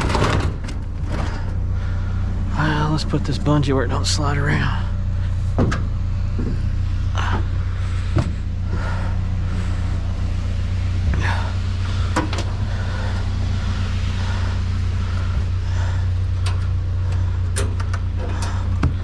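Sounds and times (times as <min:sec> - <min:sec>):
pickup truck engine idling: 0:00.0 - 0:19.0.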